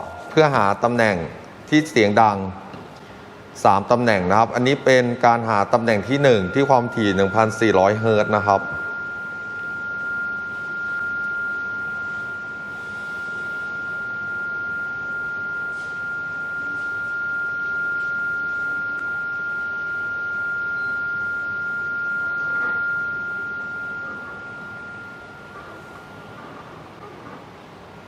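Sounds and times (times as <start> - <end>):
steady pure tone: 0.0 - 28.0.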